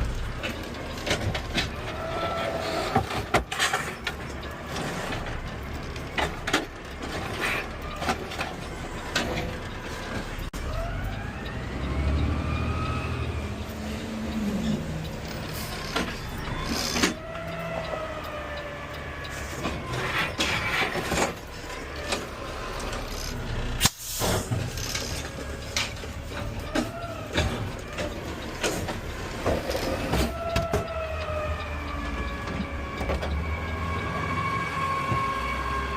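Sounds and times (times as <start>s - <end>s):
truck engine rumble: 0.0s - 35.9s.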